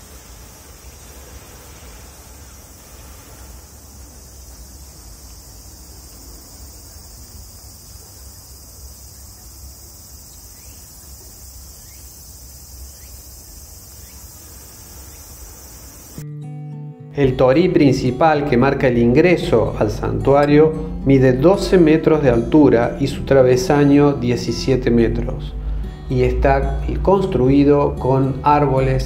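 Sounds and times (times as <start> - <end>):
insects droning: 0.0 - 16.2, 18.0 - 29.0.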